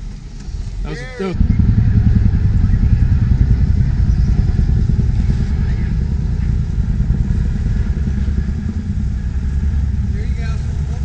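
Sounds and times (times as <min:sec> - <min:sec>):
jeep engine rumbling: 0:00.0 - 0:11.0.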